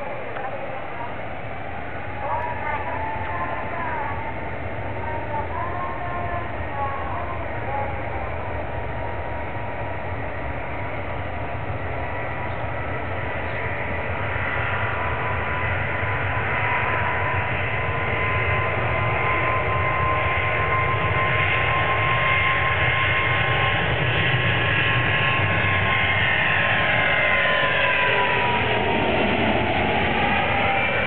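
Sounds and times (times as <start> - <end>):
jet engines at takeoff thrust: 0.0 - 31.0.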